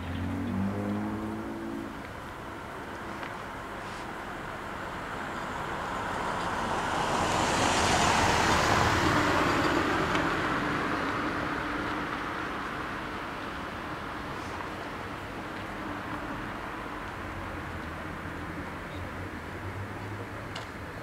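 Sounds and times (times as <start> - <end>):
road vehicle passing: 0.0 - 21.0.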